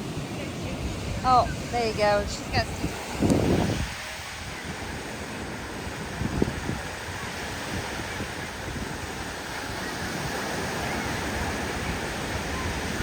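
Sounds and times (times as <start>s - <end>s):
ocean surf on beach: 0.0s - 13.0s
wind on microphone: 0.0s - 13.0s.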